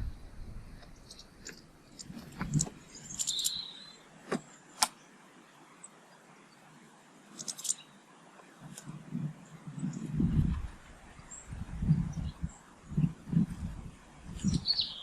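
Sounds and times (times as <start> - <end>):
small birds chirping: 0.0 - 8.1, 8.7 - 15.0.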